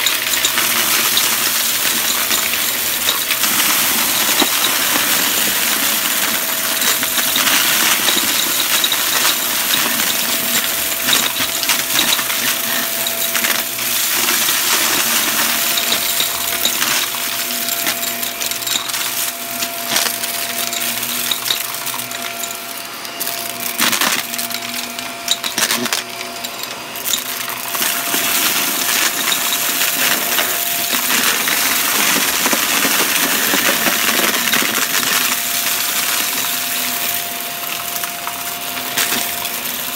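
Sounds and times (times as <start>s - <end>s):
debris rattling in vacuum: 0.0s - 39.9s
vacuum cleaner motor hum: 0.0s - 39.9s.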